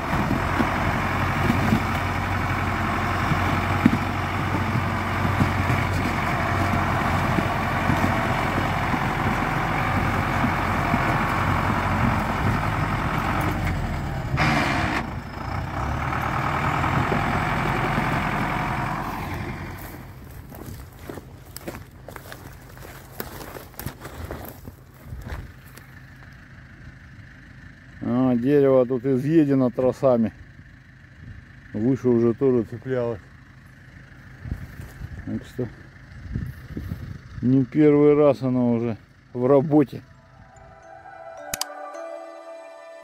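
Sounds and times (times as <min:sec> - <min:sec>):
truck engine running under load: 0:00.0 - 0:41.9.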